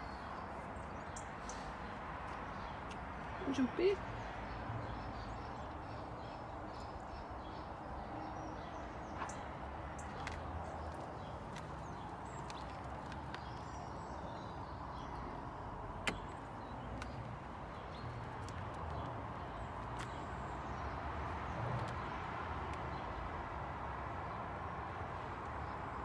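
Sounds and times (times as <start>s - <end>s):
distant bird calls: 0.0s - 23.1s.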